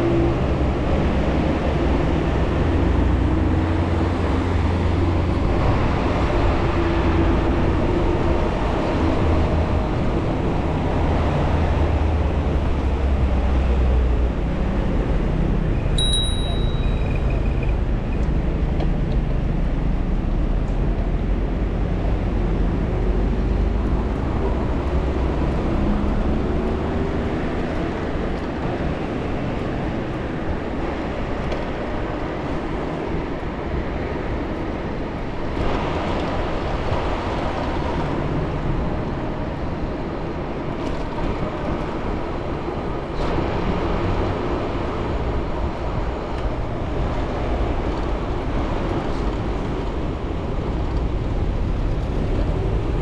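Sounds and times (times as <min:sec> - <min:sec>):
passing vehicles: 0:00.0 - 0:53.0
road noise: 0:00.0 - 0:53.0.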